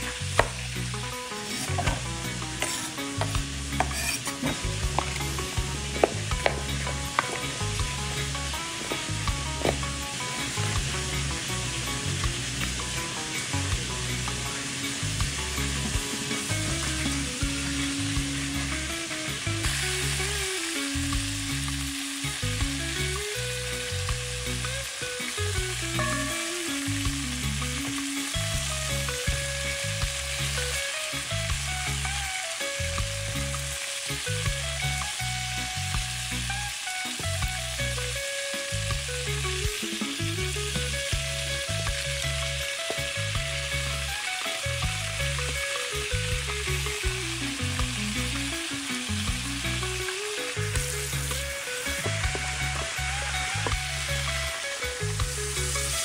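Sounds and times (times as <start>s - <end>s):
background music with bass line: 0.0s - 56.0s
chicken sizzling in oil: 0.0s - 56.0s.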